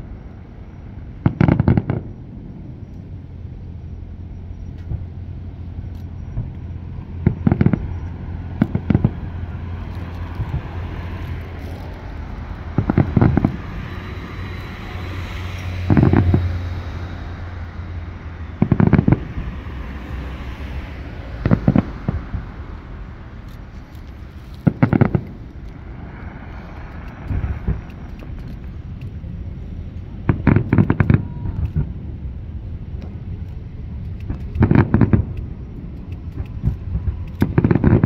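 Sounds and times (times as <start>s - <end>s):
steady low rumble: 0.0s - 38.0s
firework shells bursting: 1.0s - 3.1s, 4.7s - 16.9s, 18.6s - 20.4s, 21.4s - 32.3s, 32.9s - 38.0s.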